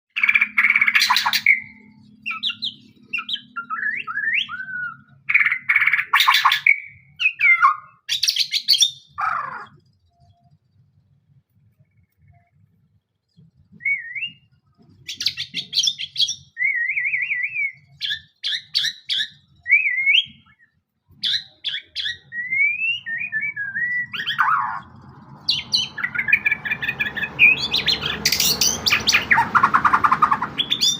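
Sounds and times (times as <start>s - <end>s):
bird singing whistled phrases: 0.2s - 10.5s, 13.8s - 30.9s.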